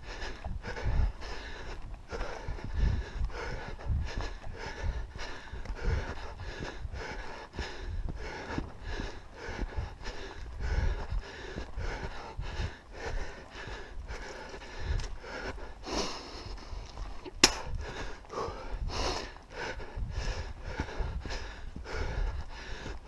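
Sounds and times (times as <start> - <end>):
footsteps on dirt: 0.0 - 23.0
low rumble against camera: 0.0 - 23.0
person breathing hard: 0.0 - 23.0.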